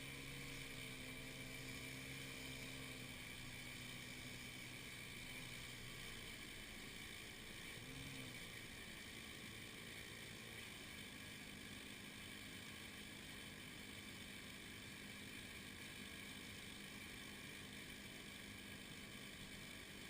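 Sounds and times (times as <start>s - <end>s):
faint engine running: 0.0s - 20.0s.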